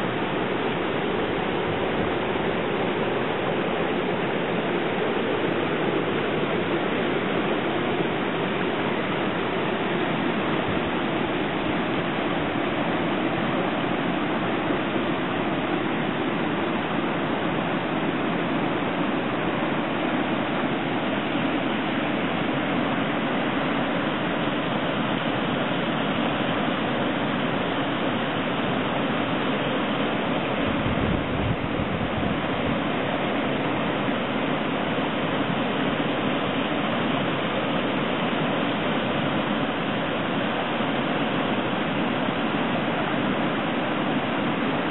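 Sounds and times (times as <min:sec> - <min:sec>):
white water rushing over rocks: 0:00.0 - 0:44.9.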